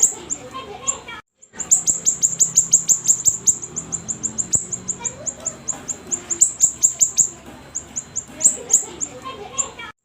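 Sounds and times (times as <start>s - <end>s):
songbird calling: 0.0s - 9.8s.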